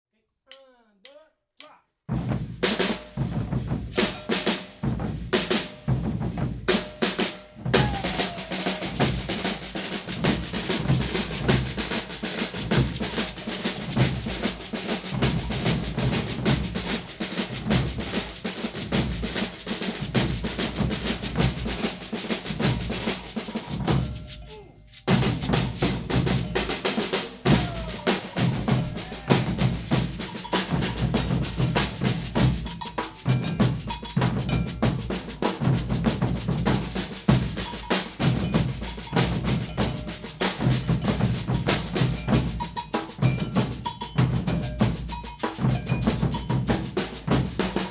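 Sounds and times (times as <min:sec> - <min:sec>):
percussion ensemble drumming: 0:00.5 - 0:47.9
snare drums: 0:01.6 - 0:47.9
deep drums: 0:02.1 - 0:07.0, 0:07.6 - 0:24.4, 0:25.1 - 0:47.9.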